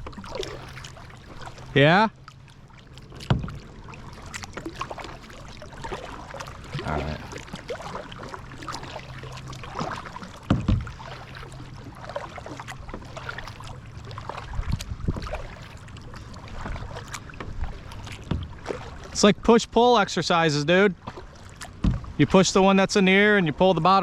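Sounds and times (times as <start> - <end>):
paddle splashing in water: 0.0 - 24.0.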